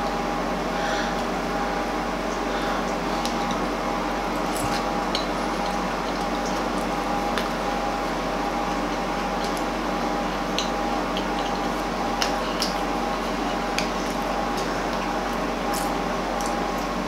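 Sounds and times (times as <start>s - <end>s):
steady hum with faint whine: 0.0s - 17.0s
person chewing with mouth sounds: 2.4s - 17.0s.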